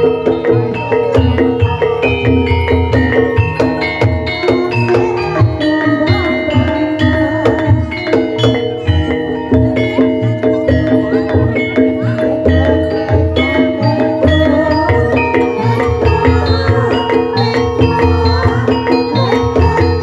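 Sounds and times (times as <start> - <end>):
bronze metallophones: 0.0 - 20.0.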